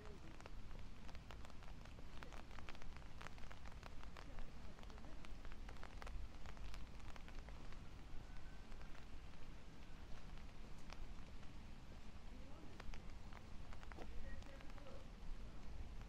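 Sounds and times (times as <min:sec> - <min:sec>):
raindrops ticking: 0:00.0 - 0:16.0.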